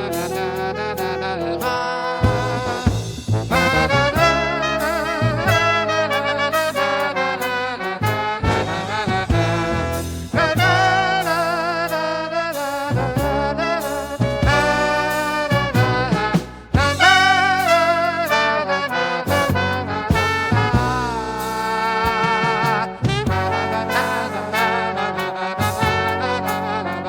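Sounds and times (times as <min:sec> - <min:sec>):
swing band music with horns: 0:00.0 - 0:27.0.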